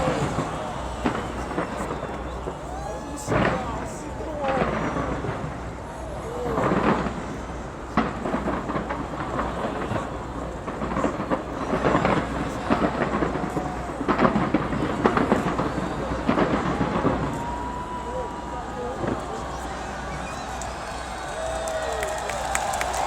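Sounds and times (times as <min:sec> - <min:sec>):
fireworks bangs and crackles: 0:00.0 - 0:23.0
fireworks booms: 0:00.0 - 0:23.0.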